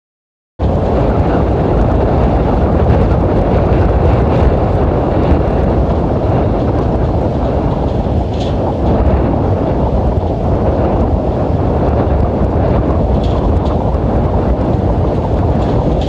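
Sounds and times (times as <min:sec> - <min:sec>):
car road noise: 0:00.6 - 0:16.0
wind buffeting microphone: 0:00.6 - 0:16.0.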